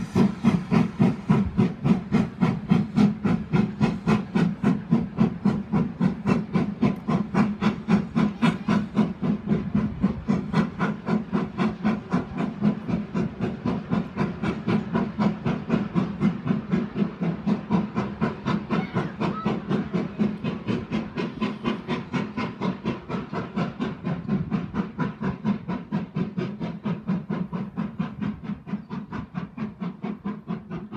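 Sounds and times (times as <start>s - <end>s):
steam locomotive exhaust beats: 0.0s - 30.9s.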